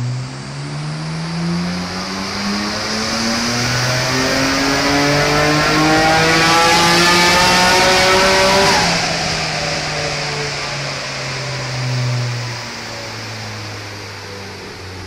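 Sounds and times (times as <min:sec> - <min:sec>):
car engine revving at full throttle: 0:00.0 - 0:15.0.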